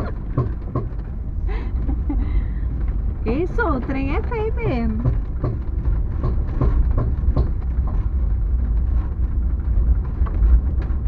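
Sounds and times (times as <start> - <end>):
knocks and rattles over bumps: 0.0 - 11.0
vehicle rumbling on dirt road: 0.0 - 11.0.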